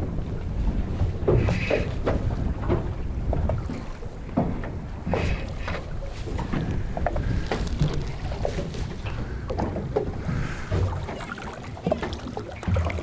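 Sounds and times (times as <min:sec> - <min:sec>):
waves slapping against boat hull: 0:00.0 - 0:13.0
wind buffeting microphone: 0:00.0 - 0:13.0.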